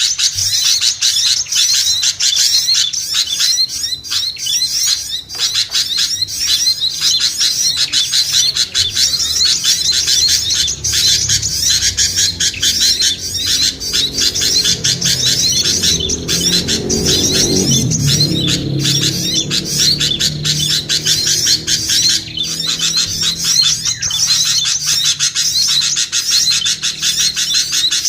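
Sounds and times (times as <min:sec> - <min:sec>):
songbirds chirping and trilling: 0:00.0 - 0:28.0
low pitched drone: 0:04.6 - 0:28.0.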